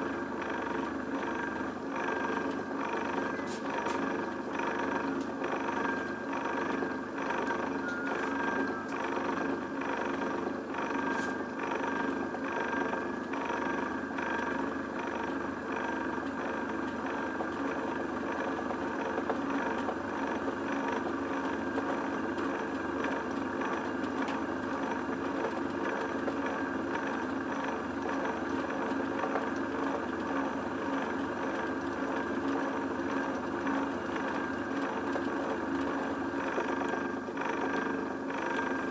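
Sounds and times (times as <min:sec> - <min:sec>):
drill spindle motor running: 0:00.0 - 0:38.9.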